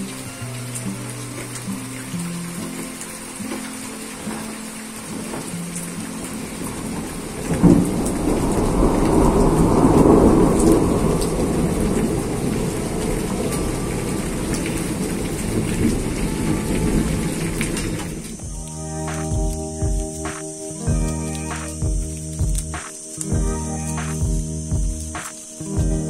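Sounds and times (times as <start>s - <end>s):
rain falling: 0.0s - 26.0s
thunder rumbling: 4.2s - 26.0s.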